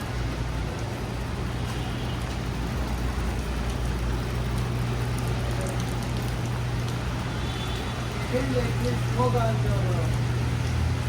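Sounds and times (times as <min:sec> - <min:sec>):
rain on a street: 0:00.0 - 0:11.0
road traffic: 0:00.0 - 0:11.0.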